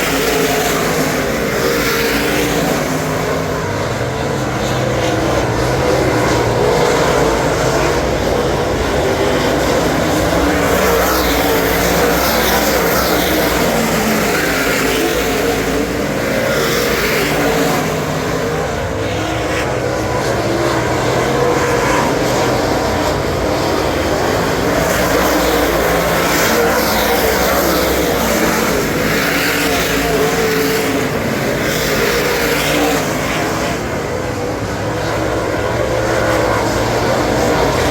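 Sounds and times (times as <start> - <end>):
race car engine running hard: 0.0 - 37.9.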